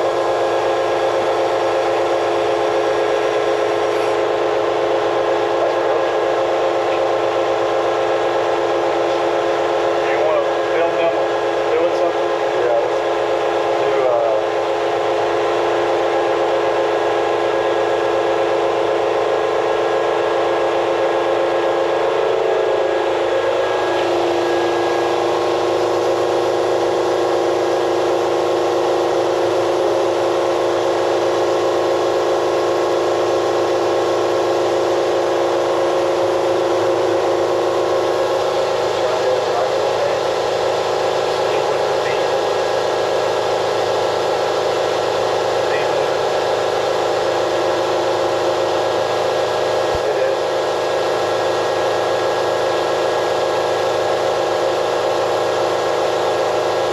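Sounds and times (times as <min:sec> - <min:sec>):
machining center whining: 0:00.0 - 0:56.9.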